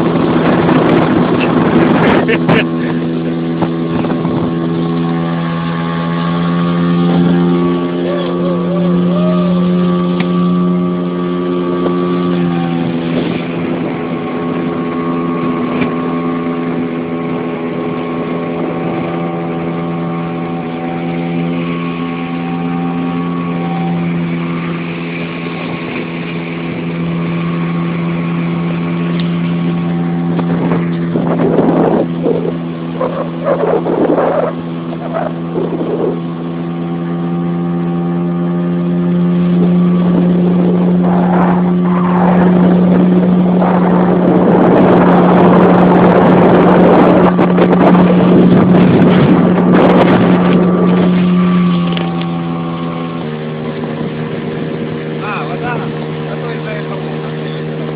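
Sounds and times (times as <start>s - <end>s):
motorboat engine drone: 0.0s - 57.9s
rush of wind and water: 0.0s - 57.9s.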